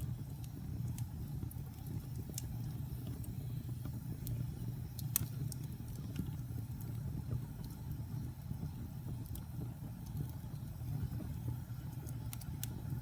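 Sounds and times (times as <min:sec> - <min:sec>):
fire popping and snapping: 0:00.0 - 0:13.0
low rumble of flames: 0:00.0 - 0:13.0
wood fire crackling: 0:00.0 - 0:13.0.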